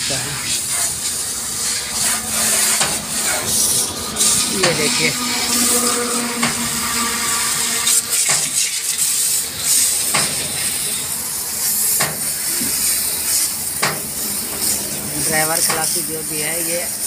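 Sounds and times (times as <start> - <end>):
hose spray hitting metal: 0.0 - 6.8, 7.8 - 16.7.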